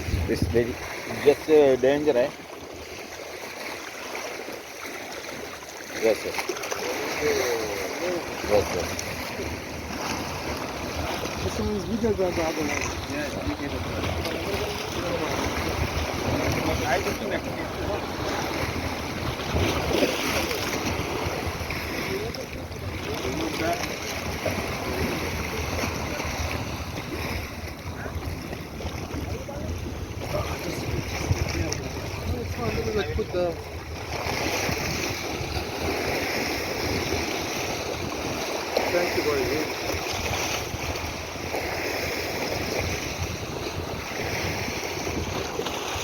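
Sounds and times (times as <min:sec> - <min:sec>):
wind buffeting microphone: 0:00.0 - 0:02.2, 0:07.0 - 0:46.0
sea water washing: 0:00.0 - 0:46.0.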